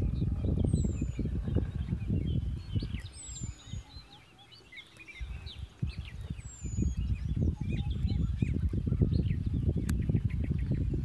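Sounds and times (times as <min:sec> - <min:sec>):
birds chirping and calling: 0:00.0 - 0:11.0
wind rumbling on microphone: 0:00.0 - 0:11.0.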